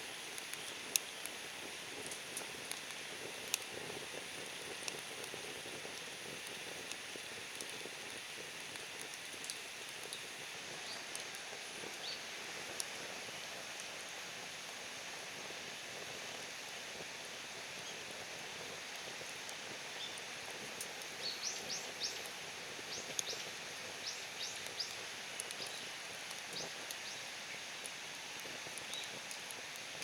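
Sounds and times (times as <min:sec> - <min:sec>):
steady woodland hiss: 0:00.0 - 0:30.0.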